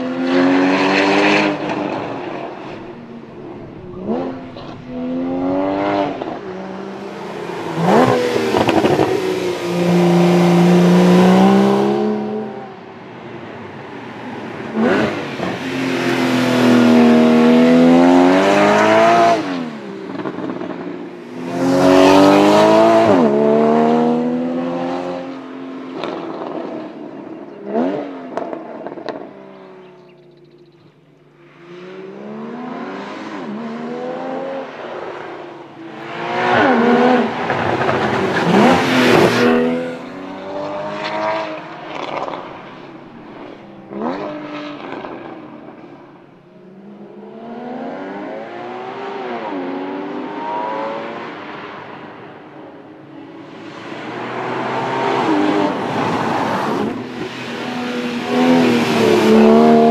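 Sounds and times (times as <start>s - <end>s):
sports car accelerating past: 0.0s - 30.4s, 31.5s - 59.9s.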